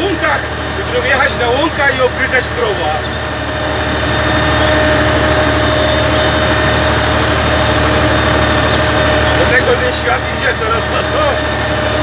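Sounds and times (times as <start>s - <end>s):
steady whine: 0.0s - 12.0s
tractor diesel engine running: 0.0s - 12.0s.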